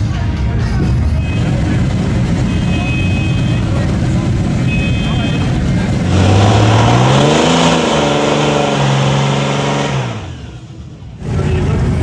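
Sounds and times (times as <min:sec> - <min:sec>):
motorcycle engine revving: 0:01.2 - 0:11.2.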